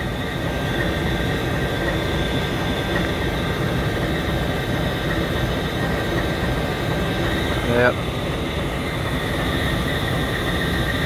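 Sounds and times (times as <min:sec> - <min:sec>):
diesel locomotive idling rumble: 0:00.0 - 0:11.0
faint steady high tones: 0:00.0 - 0:11.0.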